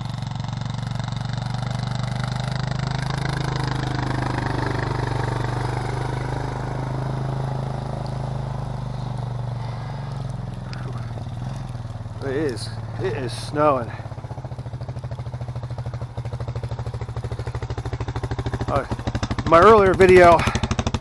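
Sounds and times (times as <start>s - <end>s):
atv engine running: 0.0s - 21.0s
blade plowing snow: 0.0s - 21.0s.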